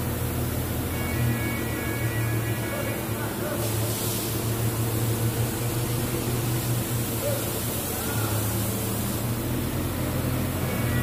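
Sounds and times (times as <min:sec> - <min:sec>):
forklift engine running: 0:00.0 - 0:11.0.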